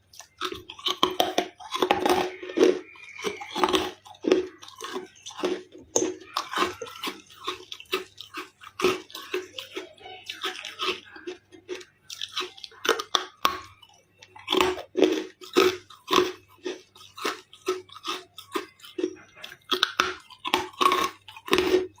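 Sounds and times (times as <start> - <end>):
ice crunching between teeth: 0.0 - 22.0.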